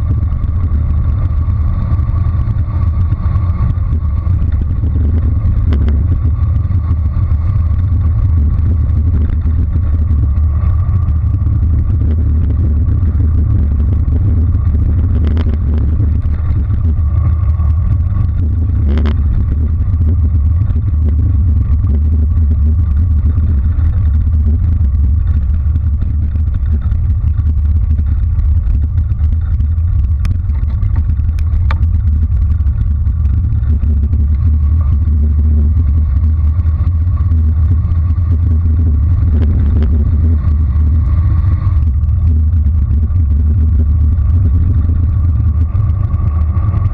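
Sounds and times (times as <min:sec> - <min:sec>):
bicycle tyres rumbling on asphalt: 0:00.0 - 0:46.9
wind buffeting microphone: 0:00.0 - 0:46.9.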